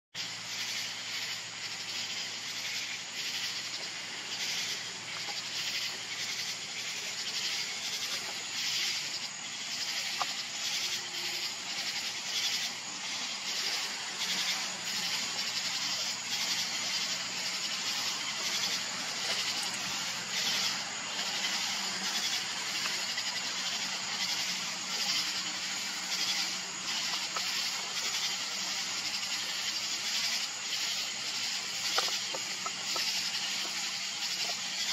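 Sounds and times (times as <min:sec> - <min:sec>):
night insects pulsing hiss: 0:00.2 - 0:34.9.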